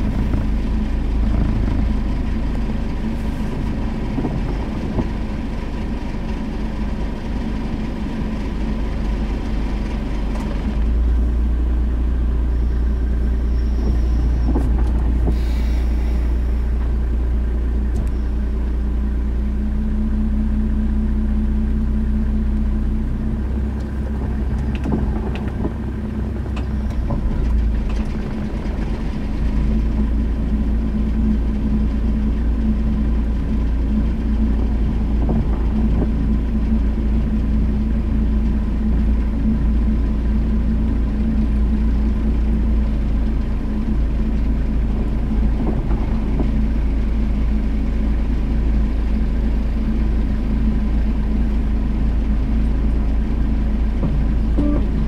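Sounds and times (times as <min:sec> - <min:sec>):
car engine hum inside cabin: 0:00.0 - 0:55.0.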